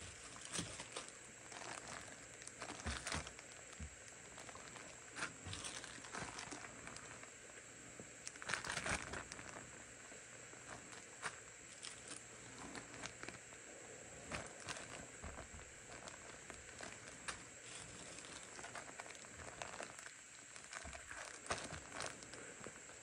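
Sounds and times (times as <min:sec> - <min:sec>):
plastic bags crinkling: 0:00.0 - 0:07.3, 0:08.2 - 0:09.8, 0:10.6 - 0:13.4, 0:14.2 - 0:23.0.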